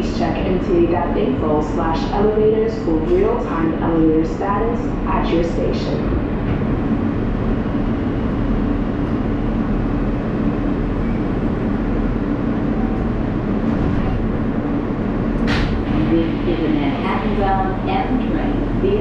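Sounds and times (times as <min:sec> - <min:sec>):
subway wheels rumbling on rails: 0:00.0 - 0:19.0.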